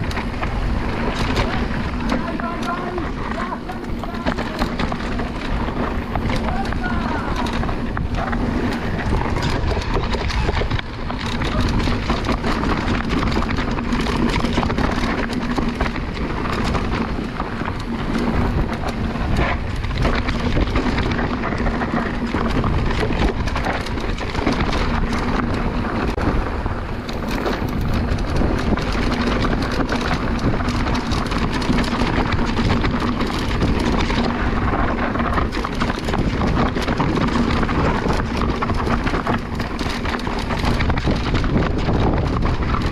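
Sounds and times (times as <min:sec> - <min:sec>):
bike rattling: 0:00.0 - 0:42.9
bike tyres rolling on stony trail: 0:00.0 - 0:42.9
wind on microphone: 0:00.0 - 0:42.9.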